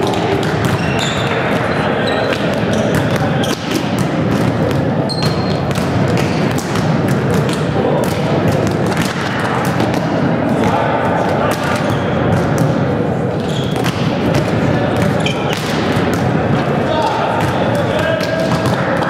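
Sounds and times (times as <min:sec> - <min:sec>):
balls bouncing on hall floor: 0:00.0 - 0:19.0
volleyballs being struck by hand: 0:00.0 - 0:19.0.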